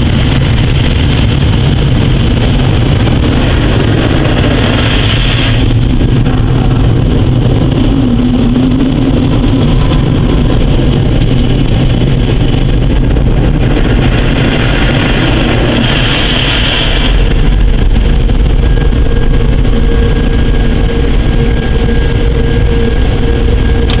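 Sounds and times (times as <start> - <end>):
car wash equipment rumbling: 0.0 - 24.0.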